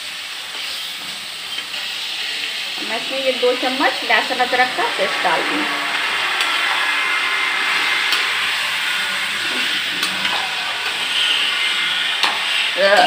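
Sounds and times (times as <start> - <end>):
meat and onions sizzling in oil: 0.0 - 13.0.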